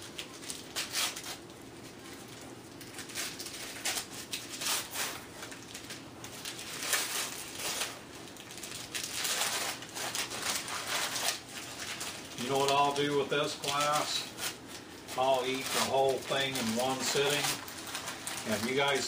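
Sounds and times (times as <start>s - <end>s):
gift wrapping crinkling: 0.0s - 19.0s.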